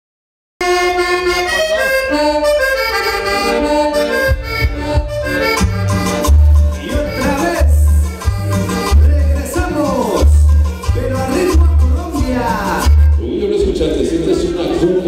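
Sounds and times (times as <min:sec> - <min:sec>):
accordion melody: 0:00.6 - 0:15.0
latin dance music: 0:00.6 - 0:15.0.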